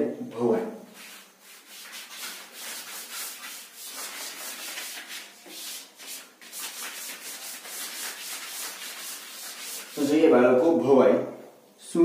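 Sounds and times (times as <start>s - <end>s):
chalk wiped off blackboard: 0.9s - 10.8s.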